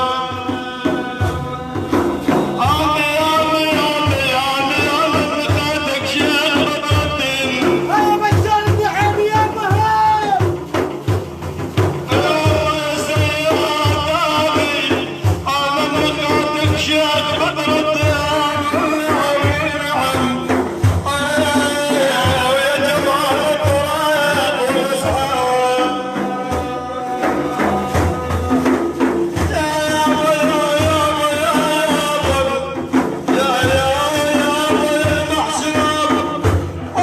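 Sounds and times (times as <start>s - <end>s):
hand drums beating: 0.0s - 37.0s.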